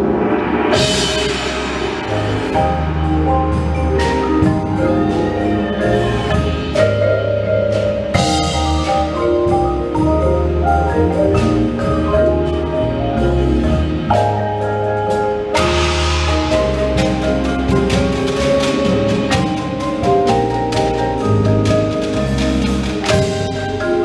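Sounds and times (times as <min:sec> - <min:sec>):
marimbas and vibraphones melody: 0:00.0 - 0:24.0
sharp percussion accents: 0:00.0 - 0:24.0
sustained low bass notes: 0:00.7 - 0:24.0.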